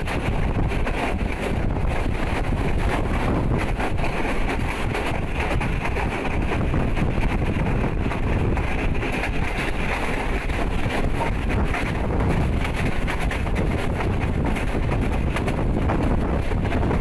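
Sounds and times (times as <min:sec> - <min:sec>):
wheels rumbling on track: 0:00.0 - 0:17.0
wind on microphone: 0:00.0 - 0:17.0.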